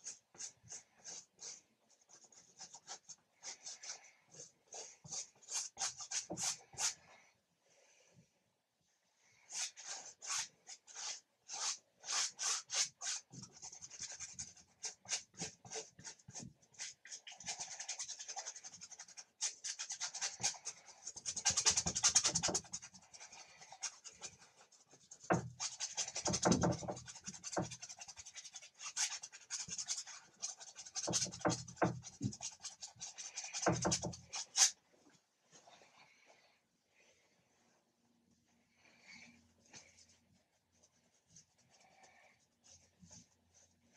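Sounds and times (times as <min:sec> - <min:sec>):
paintbrush scrubbing on canvas: 0:00.0 - 0:07.1, 0:09.4 - 0:34.8, 0:38.9 - 0:43.9.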